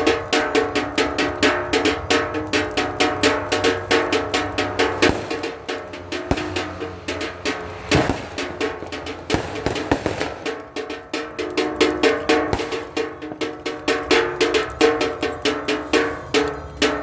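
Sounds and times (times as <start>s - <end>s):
drum-like banging: 0.0s - 17.0s
metallic clanging: 0.0s - 17.0s.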